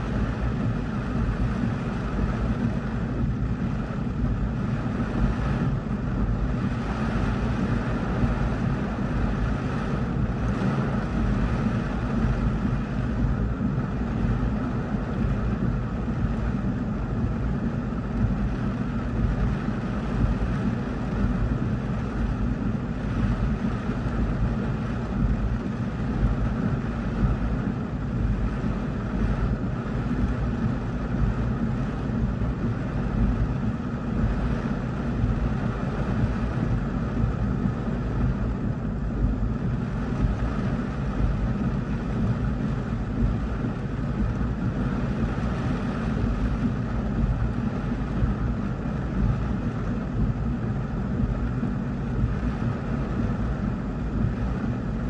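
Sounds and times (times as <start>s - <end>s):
gusting wind: 0.0s - 55.0s
heavy rain on car roof: 0.0s - 55.0s.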